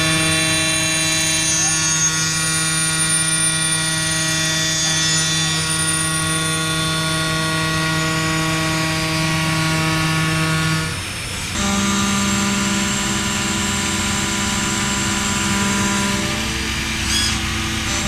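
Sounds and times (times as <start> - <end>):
milling machine whine: 0.0 - 18.0.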